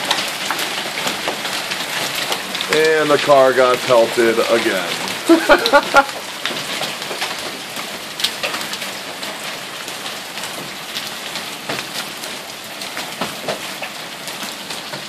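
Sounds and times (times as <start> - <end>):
hail falling: 0.0 - 15.0
hailstones clicking: 0.0 - 15.0.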